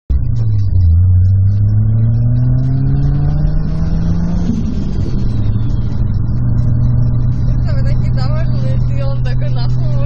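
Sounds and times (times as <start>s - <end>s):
car engine accelerating: 0.1s - 10.0s.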